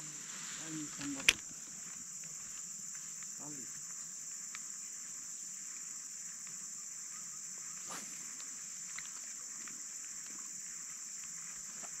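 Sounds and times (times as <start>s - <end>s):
insects droning: 0.0s - 12.0s
faint ticks: 0.6s - 6.7s, 8.3s - 12.0s.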